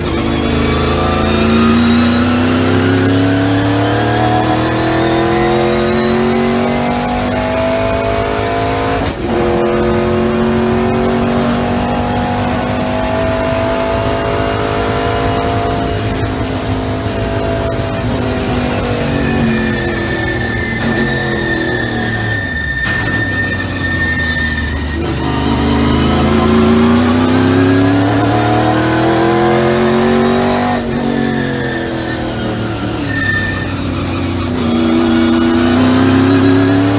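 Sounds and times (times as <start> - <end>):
race car engine accelerating: 0.0 - 36.9.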